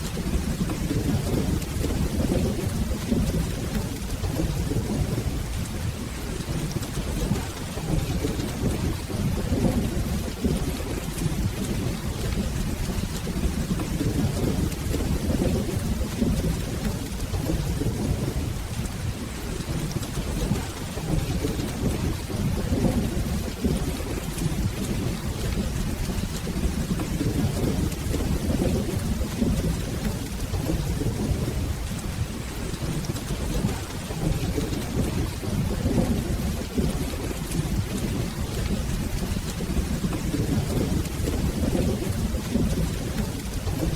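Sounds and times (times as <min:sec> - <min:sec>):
rolling thunder: 0:00.0 - 0:43.9
steady rain: 0:00.0 - 0:43.9.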